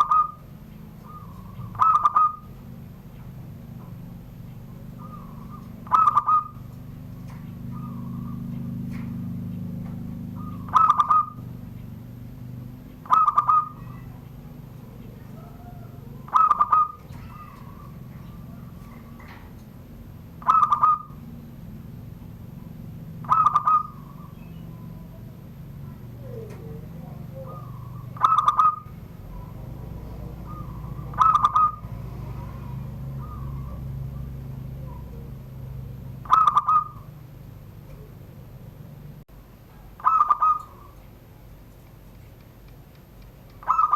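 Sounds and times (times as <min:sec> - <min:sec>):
dove trilled cooing: 0:00.0 - 0:41.2, 0:43.5 - 0:43.9.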